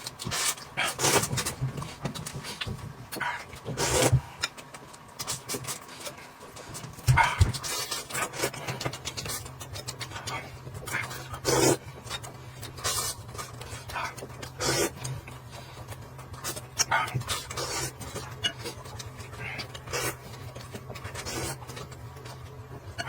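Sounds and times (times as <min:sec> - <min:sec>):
chewing and slurping: 0:00.0 - 0:23.0.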